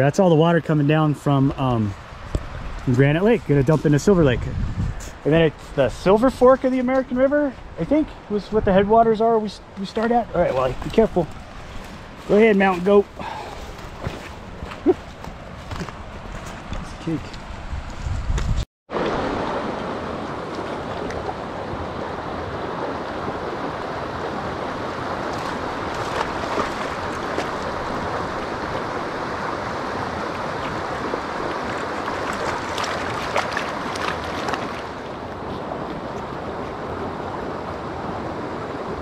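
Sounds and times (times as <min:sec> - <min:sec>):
running water: 0:00.0 - 0:17.2, 0:18.9 - 0:39.0.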